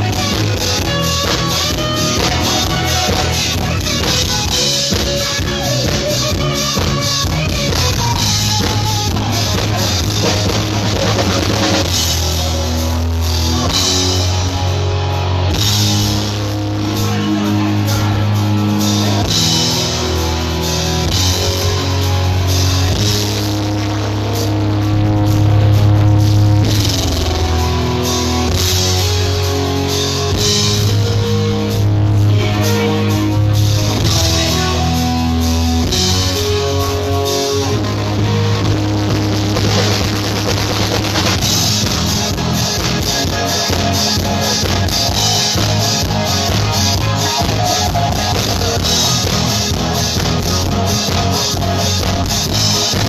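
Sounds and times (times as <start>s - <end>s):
bass line: 0.0s - 53.0s
drum kit: 0.0s - 53.0s
electric guitar: 0.0s - 53.0s.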